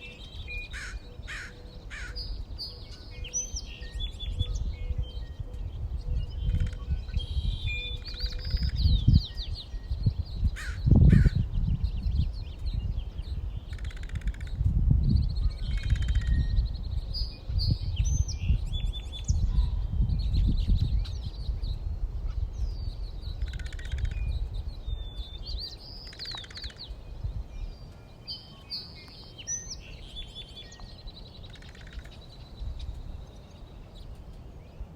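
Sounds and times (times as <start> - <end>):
songbirds chirping and singing: 0.0 - 34.9.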